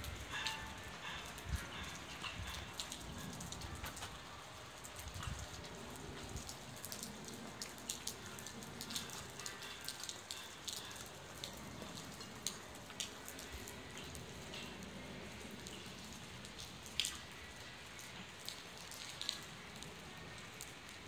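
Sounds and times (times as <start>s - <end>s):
rain on wet pavement: 0.0s - 21.0s.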